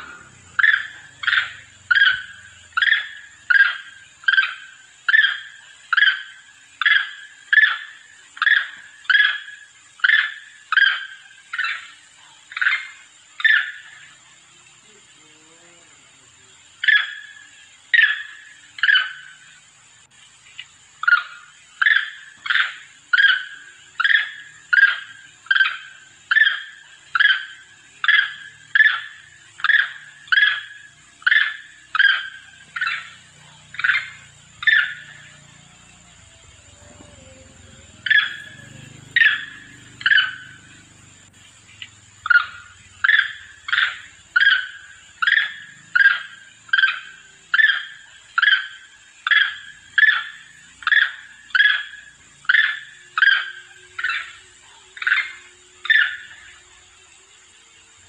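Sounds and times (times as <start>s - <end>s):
monkey calling: 0.0s - 14.2s, 16.6s - 19.6s, 21.0s - 56.6s.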